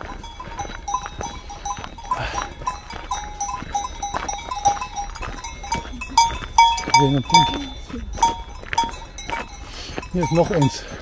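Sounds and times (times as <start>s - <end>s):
sheep bells clinking: 0.0s - 11.0s.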